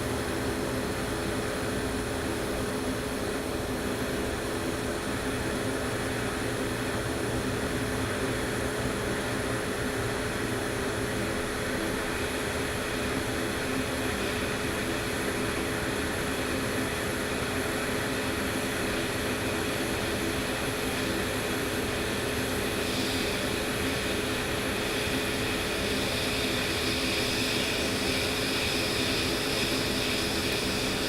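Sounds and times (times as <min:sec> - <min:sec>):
hot air blower with low tone: 0:00.0 - 0:31.0.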